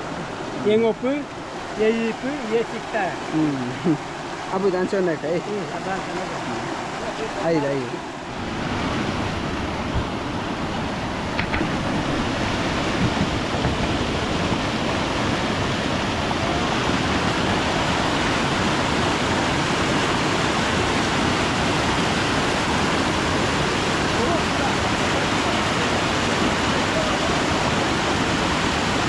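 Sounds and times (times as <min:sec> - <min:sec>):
water rushing over boulders: 0:00.0 - 0:29.0.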